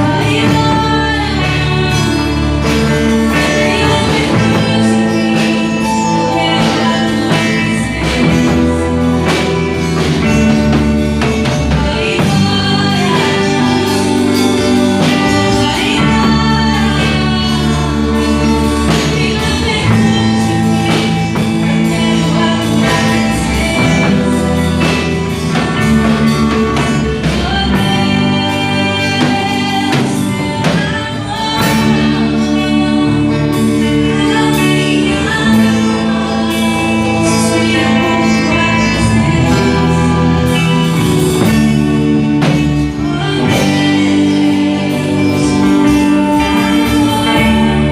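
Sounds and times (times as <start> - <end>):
gospel band playing: 0.0 - 47.9
people singing: 0.0 - 47.9.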